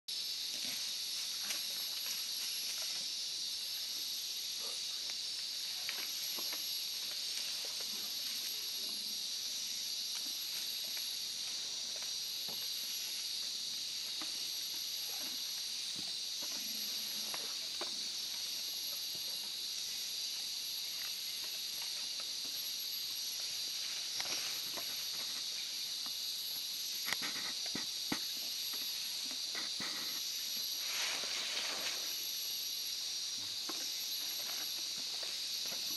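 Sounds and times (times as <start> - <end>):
insect chorus hissing drone: 0.1 - 35.9.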